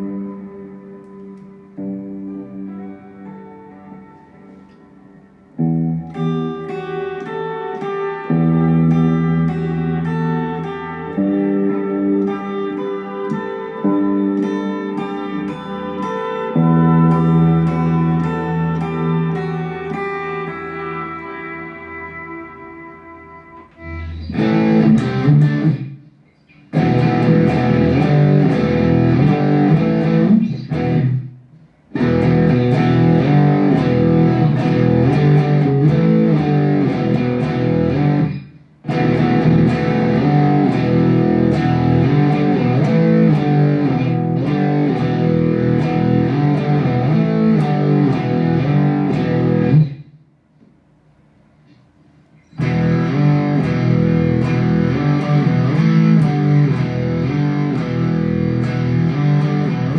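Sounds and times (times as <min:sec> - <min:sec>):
electric guitar ringing chords: 0:00.0 - 0:50.2, 0:52.4 - 0:59.9.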